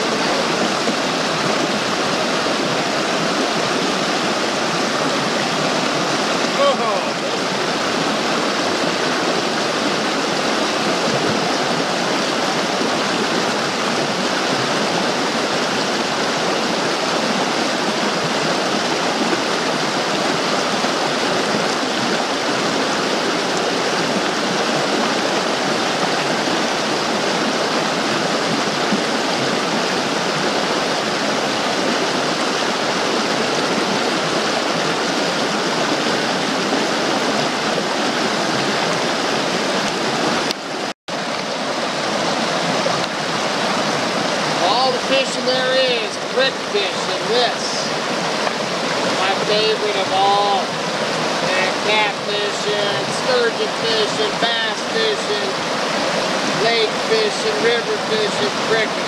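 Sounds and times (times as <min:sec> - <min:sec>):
creek rushing over rocks: 0:00.0 - 0:59.0.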